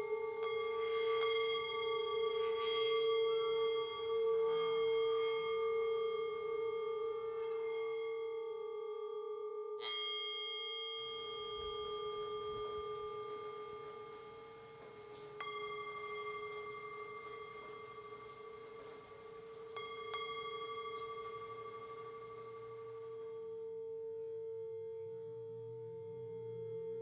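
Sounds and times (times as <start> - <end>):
singing bowl ringing: 0.0 - 27.0.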